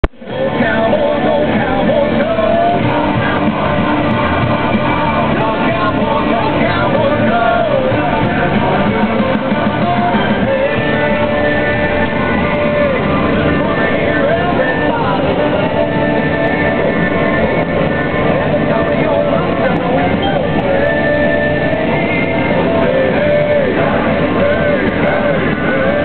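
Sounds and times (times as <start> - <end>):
rock music with singing: 0.0 - 26.0.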